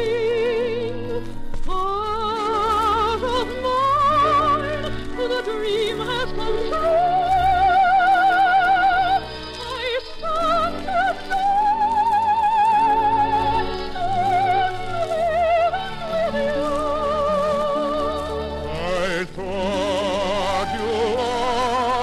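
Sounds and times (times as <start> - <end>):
operatic singing voice: 0.0 - 22.0
orchestral accompaniment: 0.0 - 22.0.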